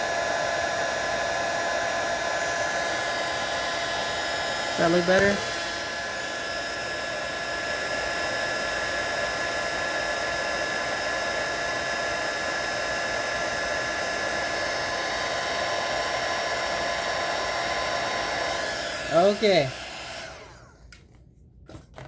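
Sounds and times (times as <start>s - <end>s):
heat gun blowing air: 0.0s - 20.8s.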